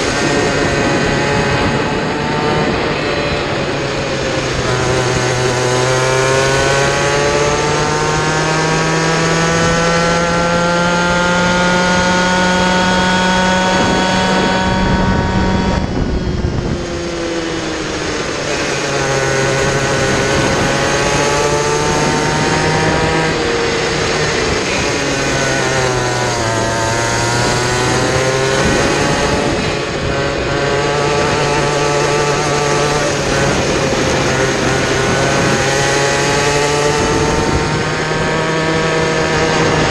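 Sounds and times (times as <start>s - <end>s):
kart two-stroke engine: 0.0s - 39.9s.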